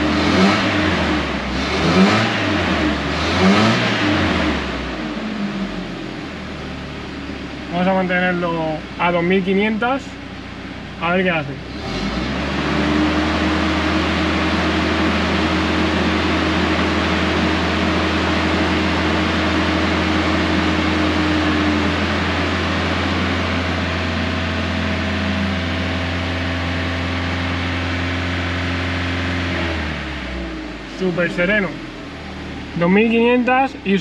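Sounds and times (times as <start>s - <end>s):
car engine running steadily: 0.0s - 34.0s.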